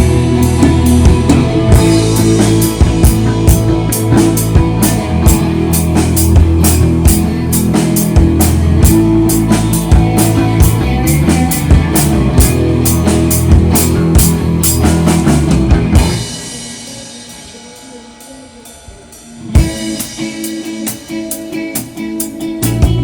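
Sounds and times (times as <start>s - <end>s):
drum beat with sharp hits: 0.0s - 23.0s
rock band playing: 0.0s - 23.0s
sustained bass notes: 0.0s - 23.0s.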